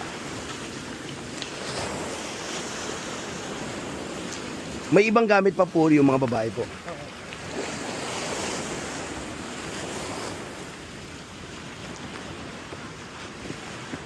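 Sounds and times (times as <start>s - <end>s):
rough surf waves rushing: 0.0s - 14.0s.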